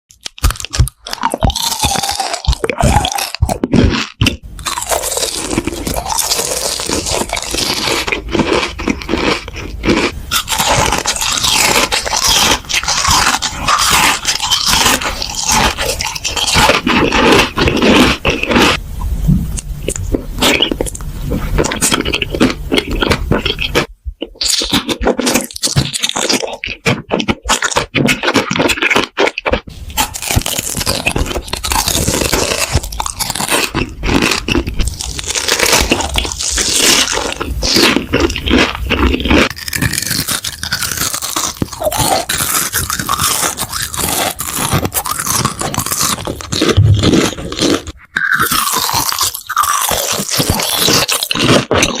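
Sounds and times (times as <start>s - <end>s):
chewing crunchy food: 0.1s - 52.0s.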